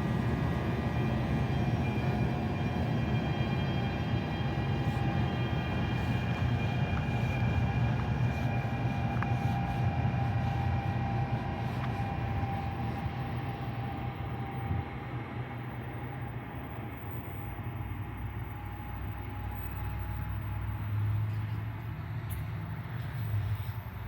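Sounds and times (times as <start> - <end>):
faint whining tones: 0.0 - 24.0
train rumbling by: 0.0 - 24.0.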